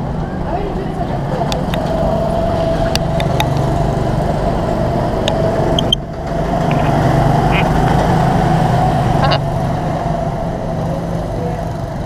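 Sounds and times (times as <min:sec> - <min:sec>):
go-kart engines racing: 0:00.0 - 0:12.0.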